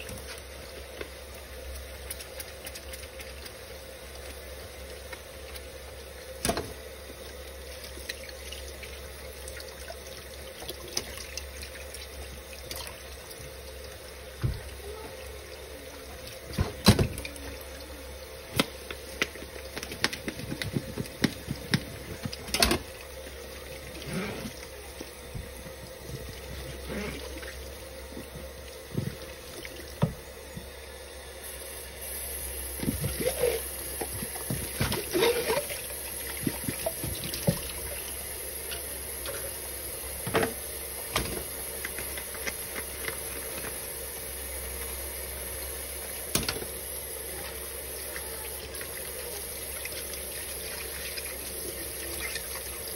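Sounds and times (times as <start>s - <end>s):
faucet water running into sink: 0.0s - 52.9s.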